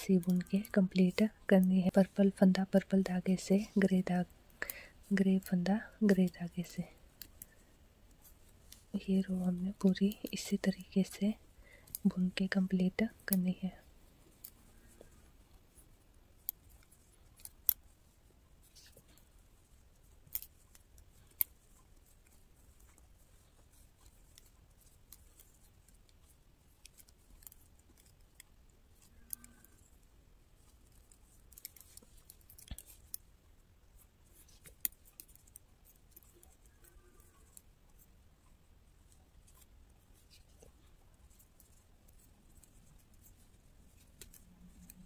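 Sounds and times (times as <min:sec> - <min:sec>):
metal knitting needles clicking: 0:00.0 - 0:18.0, 0:18.6 - 0:38.2, 0:39.1 - 0:45.0.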